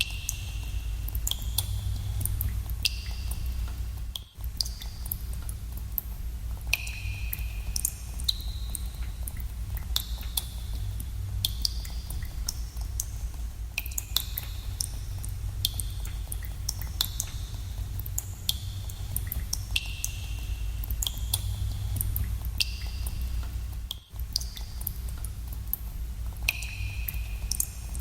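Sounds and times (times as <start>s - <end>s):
water drops plinking into pools: 0.0s - 10.6s, 13.8s - 28.0s
steady low rumble: 0.0s - 28.0s.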